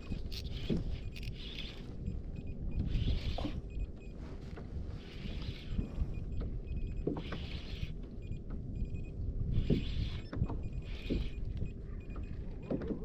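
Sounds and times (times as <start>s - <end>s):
fishing reel gears whirring: 0.0s - 3.8s, 4.9s - 12.4s
low wind: 0.0s - 13.0s.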